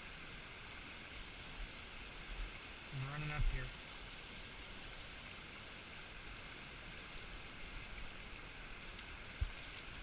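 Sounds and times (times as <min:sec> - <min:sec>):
river flowing: 0:00.0 - 0:10.0.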